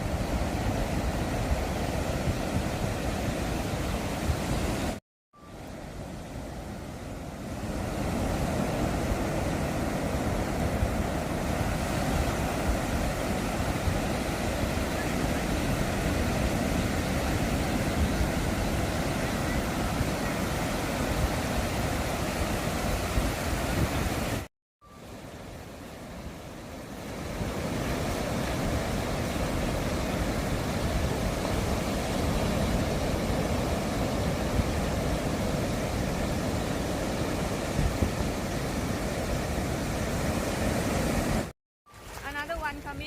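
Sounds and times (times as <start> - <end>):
wind rumbling on microphone: 0.0 - 41.5
surf breaking on beach: 5.6 - 43.0.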